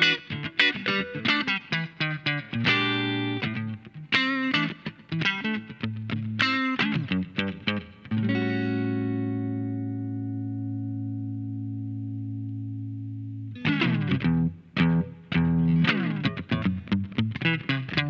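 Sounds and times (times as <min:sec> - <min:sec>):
electric guitar playing: 0:00.0 - 0:18.0.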